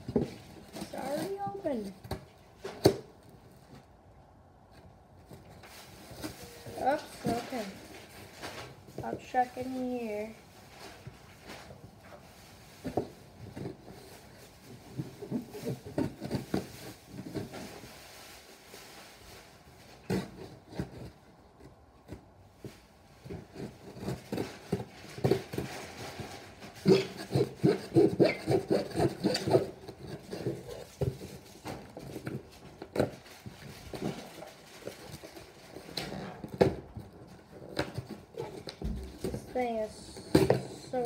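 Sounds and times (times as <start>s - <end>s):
knife sawing and scraping packaging: 0.0s - 3.7s, 5.3s - 21.2s, 23.2s - 41.0s.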